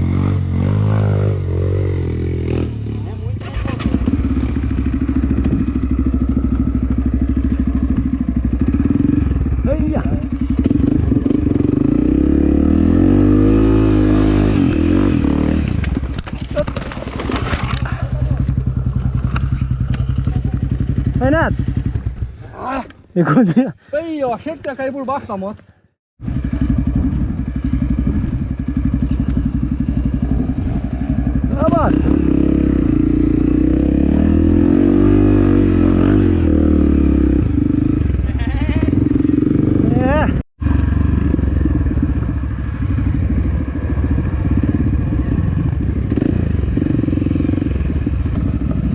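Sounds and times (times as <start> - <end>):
motorcycle engine revving: 0.0 - 22.8, 26.2 - 48.9.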